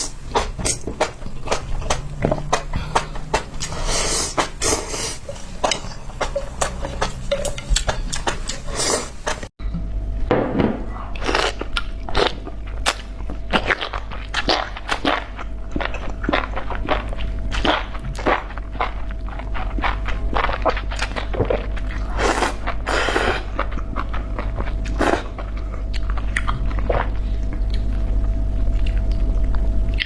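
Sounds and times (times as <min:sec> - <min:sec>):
chewing crunchy mushrooms: 0:00.0 - 0:09.5, 0:11.0 - 0:30.0.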